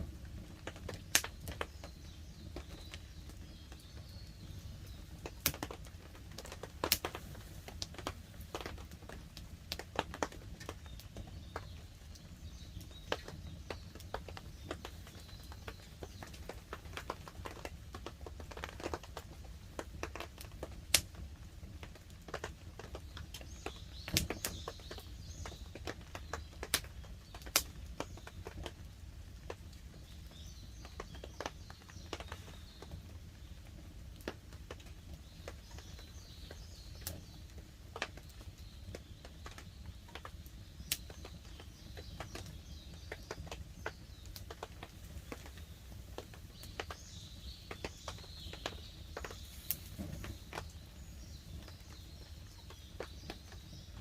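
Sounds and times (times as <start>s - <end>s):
campfire crackling and popping: 0.0s - 54.0s
faint birds chirping: 0.0s - 54.0s.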